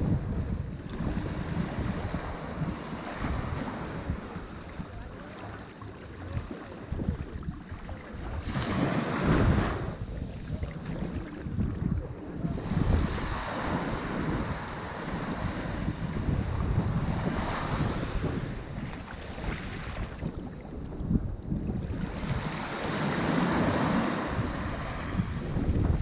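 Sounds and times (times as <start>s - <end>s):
ocean waves breaking on shore: 0.0s - 26.0s
wind rumble on microphone: 0.0s - 26.0s.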